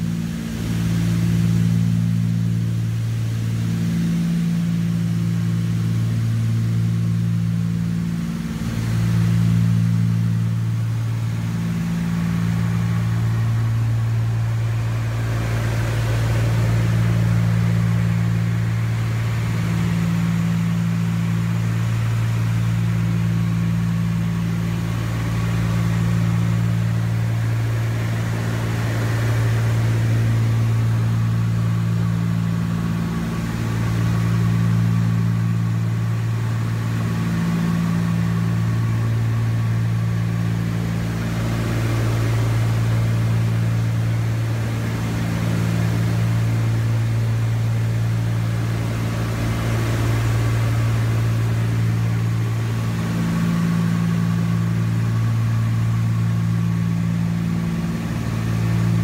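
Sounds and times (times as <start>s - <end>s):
aircraft cabin engine drone: 0.0s - 59.0s.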